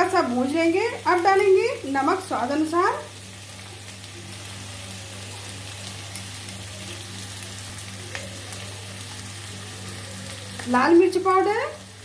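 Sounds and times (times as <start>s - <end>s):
potatoes sizzling in oil: 0.0s - 12.0s.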